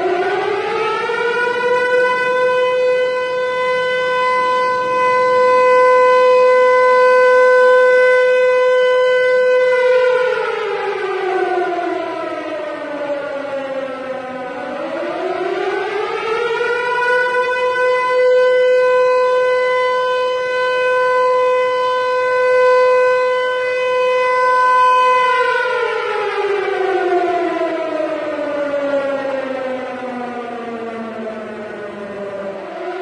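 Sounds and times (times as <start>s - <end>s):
civil defense siren wailing: 0.0s - 33.0s.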